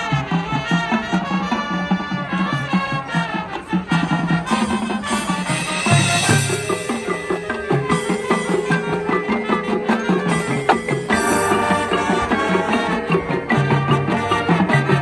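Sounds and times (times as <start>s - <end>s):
marching band playing: 0.0s - 15.0s
percussion: 0.0s - 15.0s.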